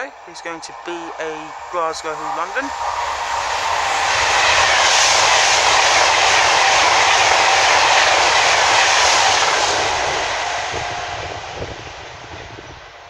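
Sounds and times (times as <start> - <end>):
train rushing through station: 0.0 - 13.0.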